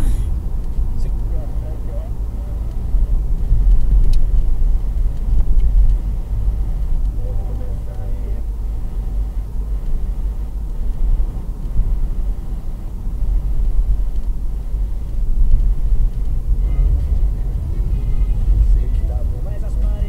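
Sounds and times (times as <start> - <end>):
car driving heard from inside: 0.0 - 20.0.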